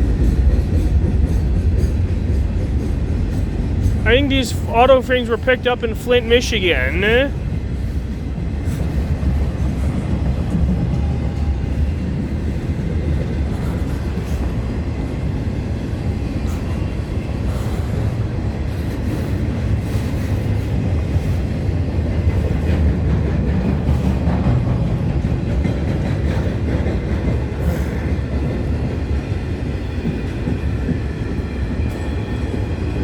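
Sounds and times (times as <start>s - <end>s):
freight train cars rumbling: 0.0s - 33.0s.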